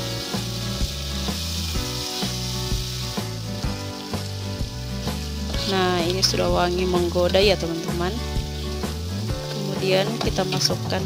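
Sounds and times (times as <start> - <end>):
background music with bass: 0.0 - 11.0
spice paste sizzling in oil: 0.0 - 11.0.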